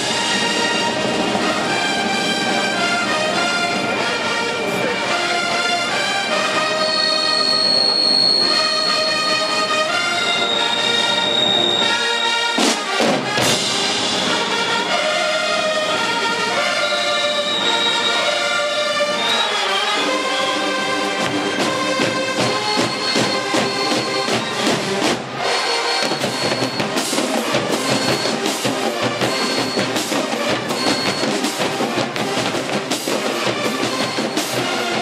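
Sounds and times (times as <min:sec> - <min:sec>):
marching band playing: 0:00.0 - 0:35.0.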